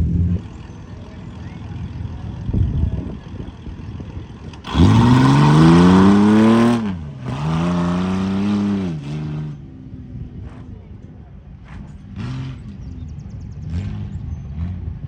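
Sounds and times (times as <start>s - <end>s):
truck engine revving: 0.0s - 9.6s, 11.6s - 15.0s.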